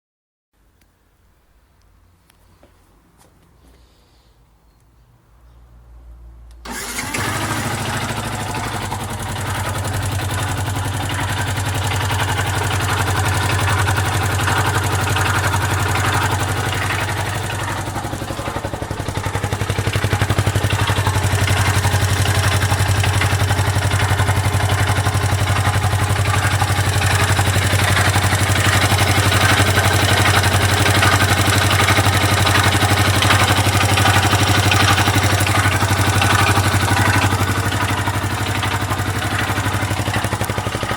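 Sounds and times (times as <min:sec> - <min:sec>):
motorcycle engine idling: 0:06.6 - 0:40.9.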